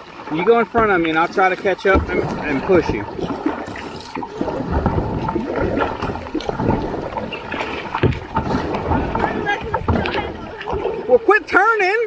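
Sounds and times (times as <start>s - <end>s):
paddle splashing in water: 0.0s - 12.0s
water sloshing around hull: 0.0s - 12.0s.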